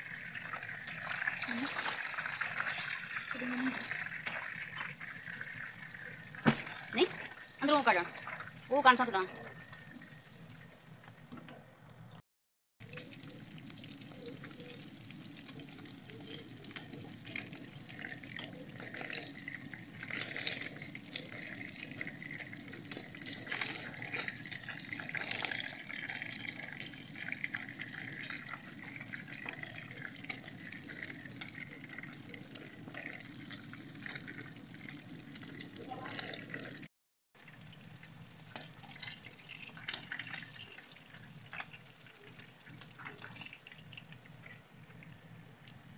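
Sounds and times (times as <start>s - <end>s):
fish sizzling in hot oil: 0.0s - 10.7s, 12.8s - 45.0s.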